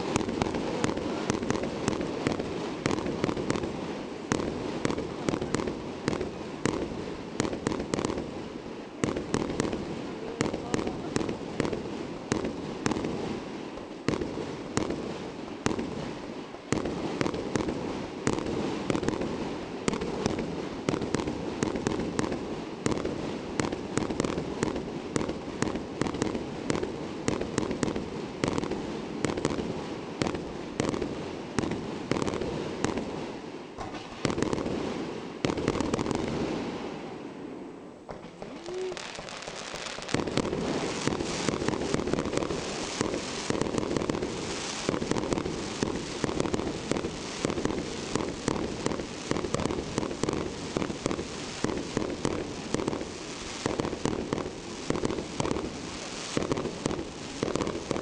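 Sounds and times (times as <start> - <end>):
fireworks bangs: 0.0 - 58.0
fireworks crackle: 0.0 - 58.0.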